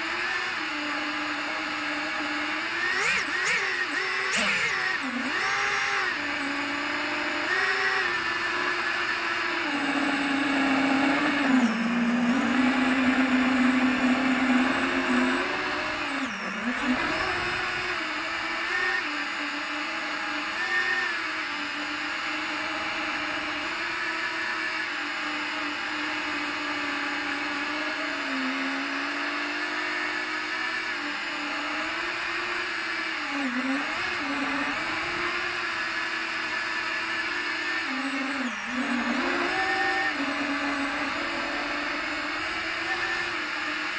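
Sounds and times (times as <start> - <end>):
drone motors and propellers whining: 0.0 - 43.9.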